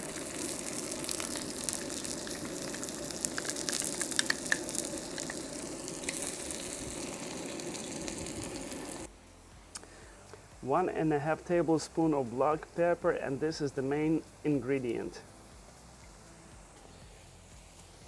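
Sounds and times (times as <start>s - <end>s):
shallots and garlic sizzling in oil: 0.0s - 9.1s, 9.9s - 18.0s.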